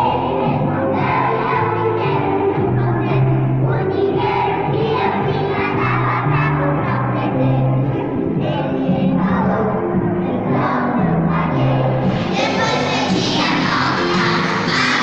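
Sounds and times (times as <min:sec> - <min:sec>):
children's song with bass line: 0:00.0 - 0:15.0
room full of children: 0:00.0 - 0:15.0
voices singing: 0:00.0 - 0:15.0.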